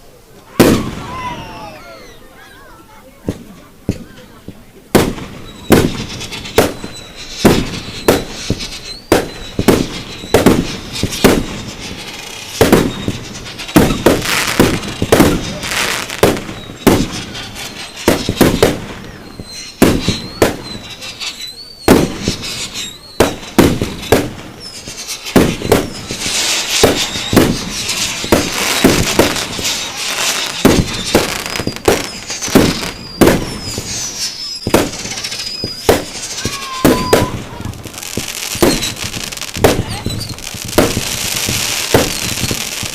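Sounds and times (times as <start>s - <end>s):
firework crackling: 0.0s - 42.9s
firework whistles: 0.5s - 2.8s, 5.0s - 42.9s
firework shell bursts: 5.0s - 42.9s.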